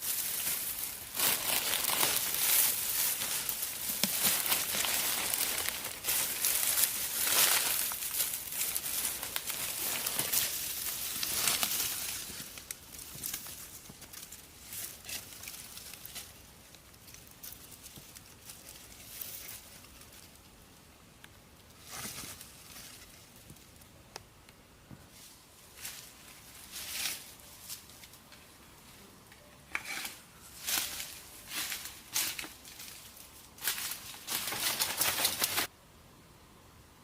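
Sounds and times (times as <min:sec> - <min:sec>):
rustling and crackling: 0:00.0 - 0:23.9, 0:29.7 - 0:35.7.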